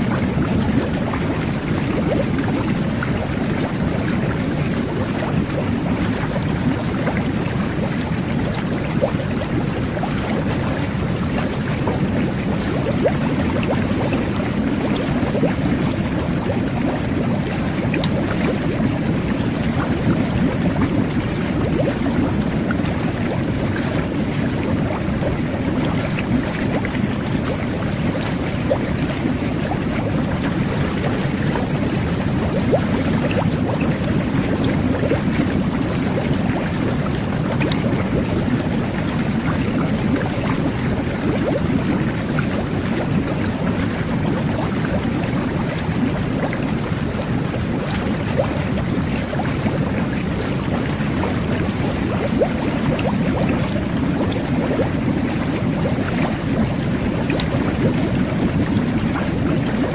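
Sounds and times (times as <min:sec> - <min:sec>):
bubbles popping: 0:00.0 - 0:59.9
water churning and bubbling: 0:00.0 - 0:59.9.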